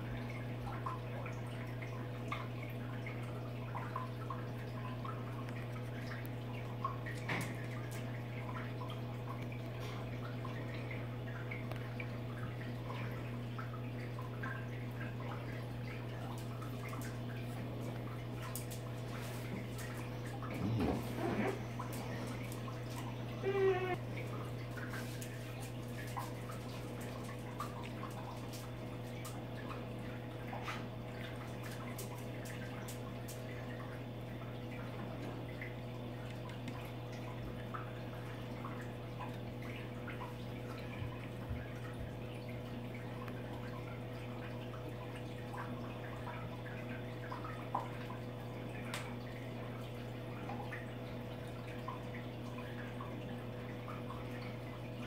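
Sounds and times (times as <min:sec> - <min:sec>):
small drips and pops: 0:00.0 - 0:55.0
water trickling: 0:00.0 - 0:55.0.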